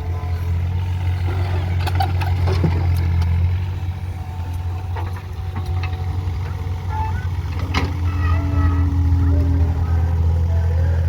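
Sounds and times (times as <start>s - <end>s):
digger diesel engine humming: 0.0s - 11.0s.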